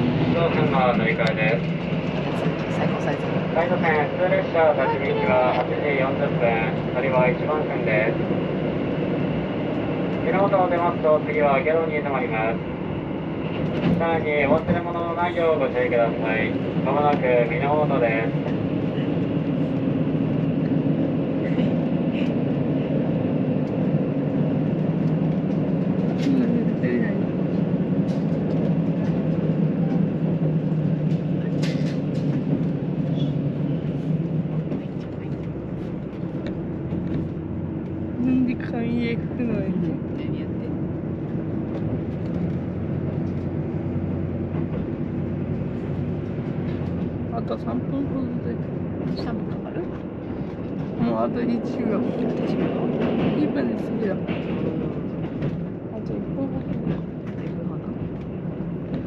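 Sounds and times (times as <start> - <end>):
constant low hum: 0.0 - 52.9
diesel engine drone: 0.0 - 59.0
train wheels on rails: 0.0 - 59.0.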